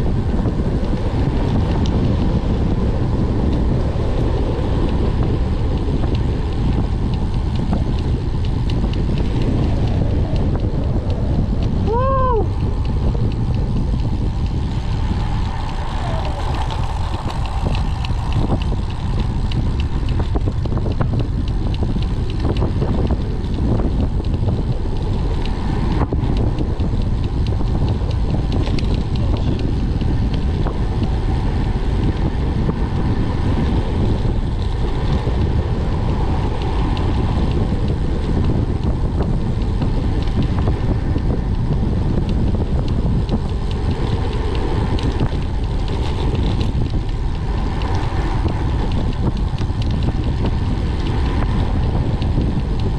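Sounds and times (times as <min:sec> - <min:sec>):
wind rushing over microphone: 0:00.0 - 0:52.9.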